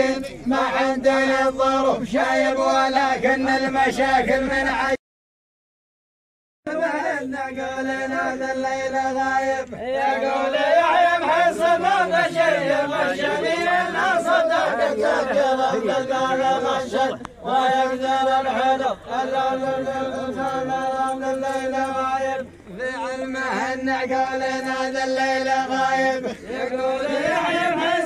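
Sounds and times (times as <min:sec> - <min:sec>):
group of men chanting: 0:00.0 - 0:05.0, 0:06.7 - 0:28.0.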